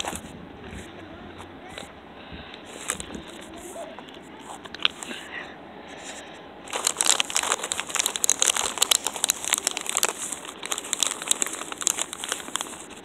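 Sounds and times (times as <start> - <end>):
crackling and rustling at microphone: 0.0 - 13.0.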